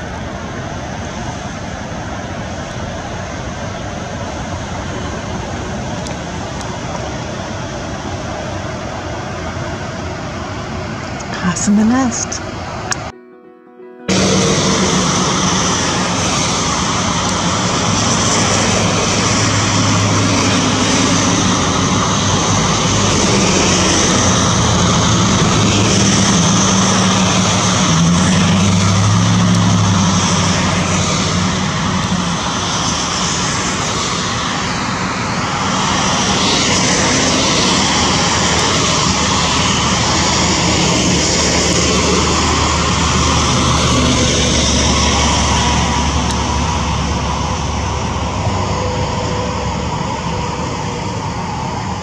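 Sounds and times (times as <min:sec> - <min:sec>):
engine drone: 0:00.0 - 0:52.0.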